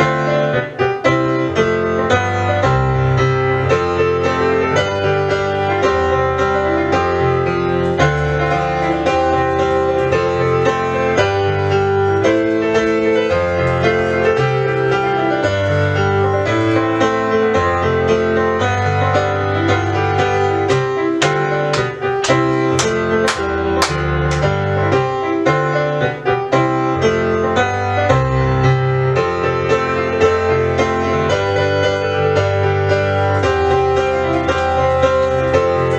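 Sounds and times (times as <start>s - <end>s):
piano music: 0.0s - 35.9s.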